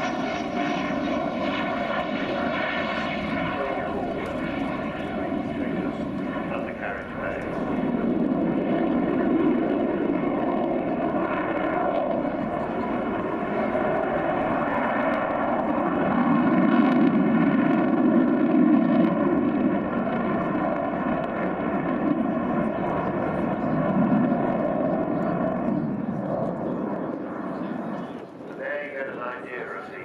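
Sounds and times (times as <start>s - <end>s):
steady pitched jet whine: 0.0s - 21.2s, 21.8s - 30.0s
jet roar: 0.0s - 30.0s.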